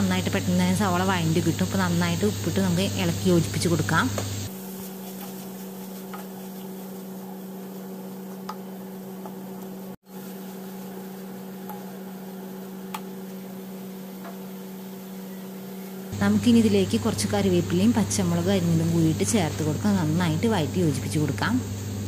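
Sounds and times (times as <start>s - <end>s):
steady hum: 0.0s - 22.0s
onions sizzling in a pan: 0.1s - 22.0s.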